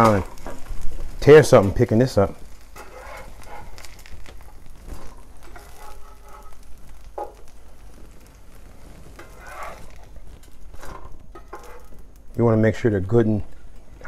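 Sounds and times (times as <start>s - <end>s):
patties sizzling in a skillet: 0.0s - 14.0s.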